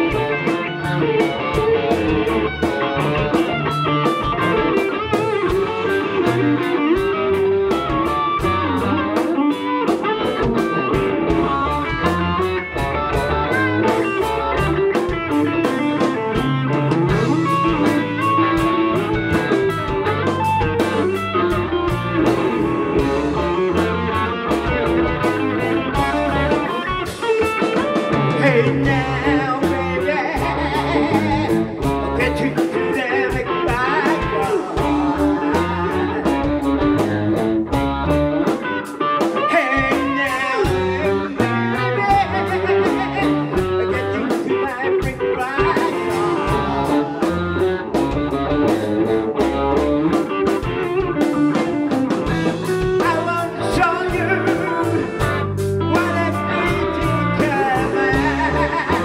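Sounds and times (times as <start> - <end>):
blues-rock band playing: 0.0 - 59.0
person singing: 4.2 - 37.5, 38.4 - 48.4, 50.2 - 59.0.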